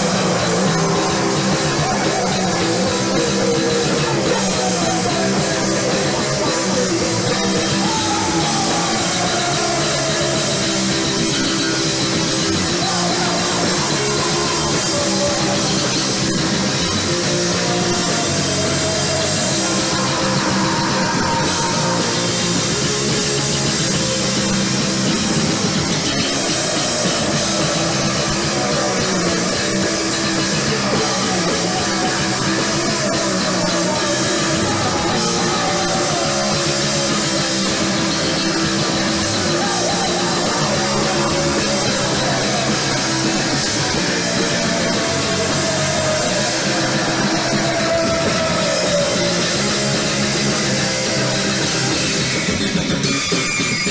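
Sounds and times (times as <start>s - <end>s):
bass guitar: 0.0s - 53.9s
drum kit: 0.0s - 53.9s
electric guitar: 0.0s - 53.9s.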